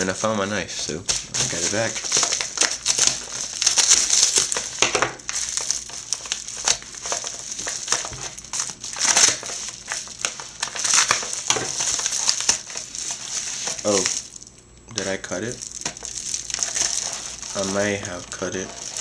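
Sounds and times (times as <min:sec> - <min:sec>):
padded mailer crinkling: 0:01.1 - 0:19.0
knife slitting mailer: 0:01.3 - 0:14.2, 0:16.5 - 0:19.0.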